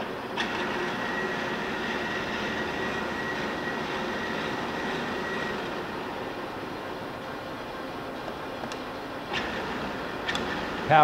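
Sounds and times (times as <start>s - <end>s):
lathe carriage whine: 0.0s - 11.0s
lathe drive running: 0.0s - 11.0s.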